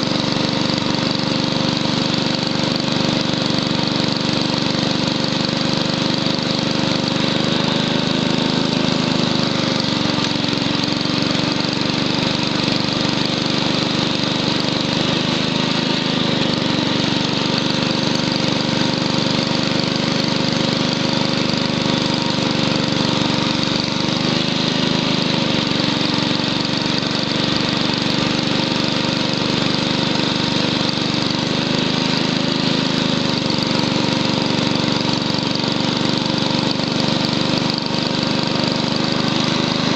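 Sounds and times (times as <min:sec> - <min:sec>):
small engine running under load: 0:00.0 - 0:39.9.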